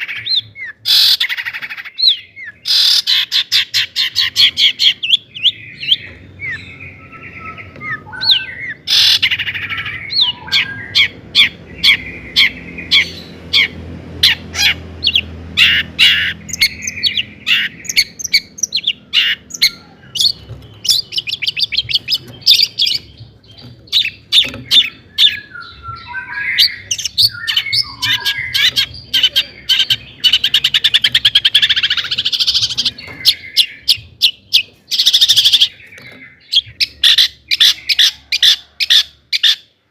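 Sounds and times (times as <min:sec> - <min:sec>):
shrike singing: 0:00.0 - 0:39.6
rapid rattling bird trill: 0:00.0 - 0:39.7.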